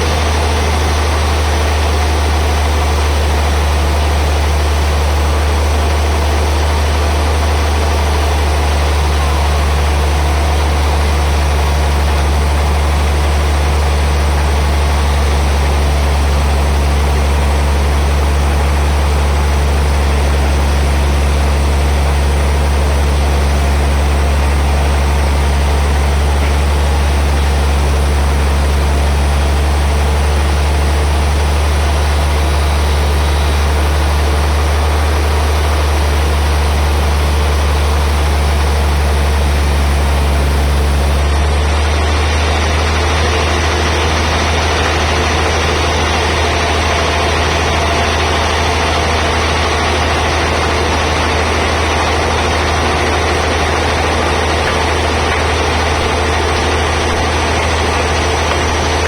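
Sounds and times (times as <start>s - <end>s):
band saw machinery humming: 0.0s - 59.0s.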